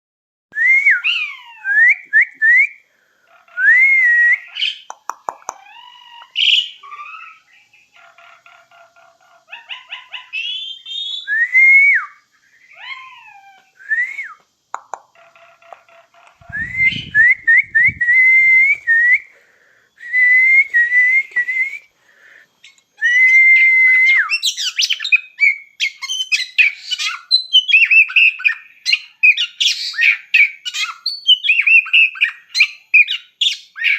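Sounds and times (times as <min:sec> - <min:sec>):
birds whistling and chattering: 0:03.2 - 0:33.9.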